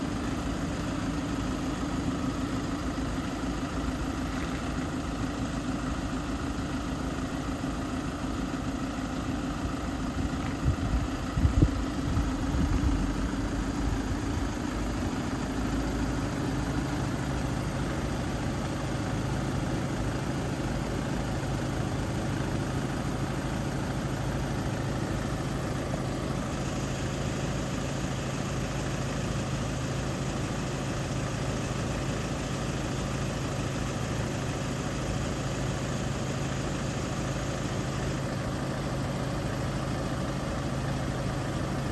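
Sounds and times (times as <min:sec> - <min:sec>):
vehicle engine idling: 0:00.0 - 0:41.9.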